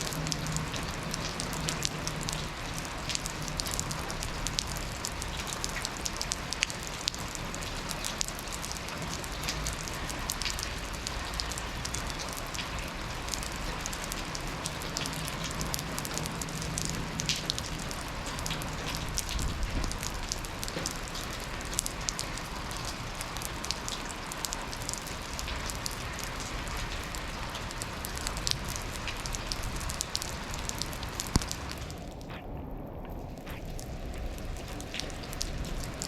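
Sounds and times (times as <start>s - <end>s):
raindrop impacts ticking: 0.0s - 36.0s
steady rain falling: 0.0s - 36.0s.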